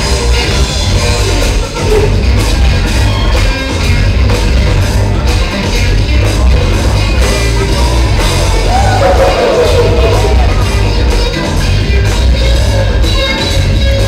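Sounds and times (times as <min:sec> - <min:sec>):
loud music with heavy beat: 0:00.0 - 0:14.0.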